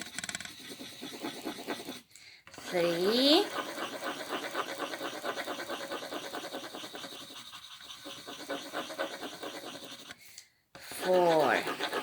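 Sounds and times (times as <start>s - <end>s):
pencil scribbling on paper: 0.0s - 12.0s.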